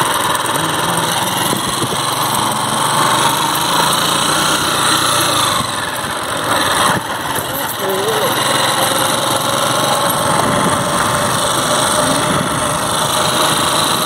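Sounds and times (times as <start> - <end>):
small motorcycle engine droning: 0.0 - 14.0.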